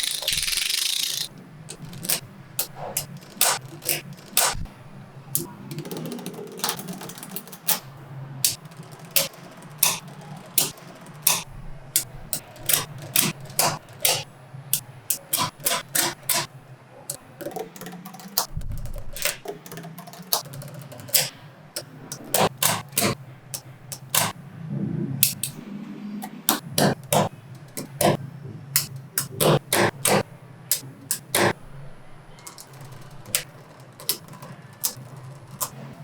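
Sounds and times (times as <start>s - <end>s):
magnetic balls clicking together: 0.0s - 24.4s, 25.2s - 25.6s, 26.2s - 31.7s, 32.3s - 36.0s.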